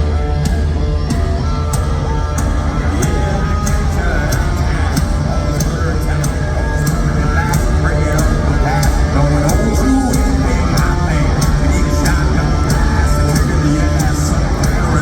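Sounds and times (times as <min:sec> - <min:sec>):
hard rock band playing live: 0:00.0 - 0:15.0.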